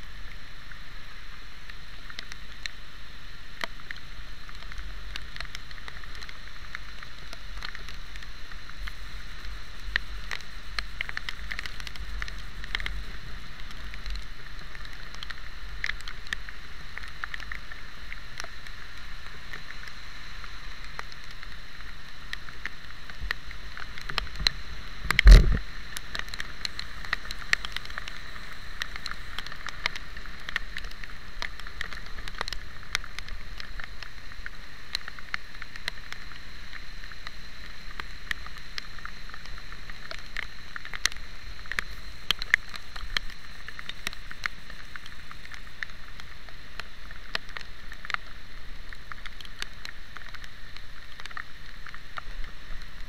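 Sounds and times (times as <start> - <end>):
rain ticking on camera housing: 0.0 - 53.0
wind and wet road hiss: 0.0 - 53.0.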